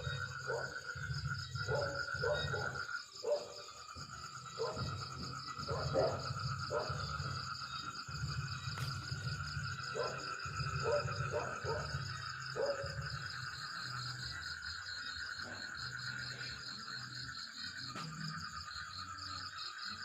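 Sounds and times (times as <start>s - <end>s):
trilling insect chorus: 0.0s - 20.0s.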